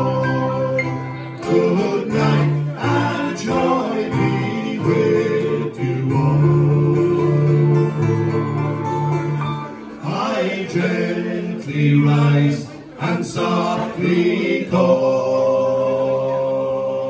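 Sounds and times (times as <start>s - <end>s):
men singing in harmony: 0.0s - 9.2s, 9.9s - 17.0s.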